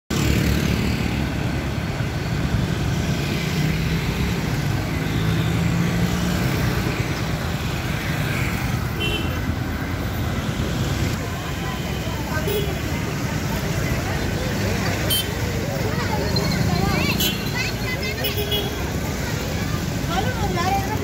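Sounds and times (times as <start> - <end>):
motorcycles and vehicles passing: 0.1 - 21.0.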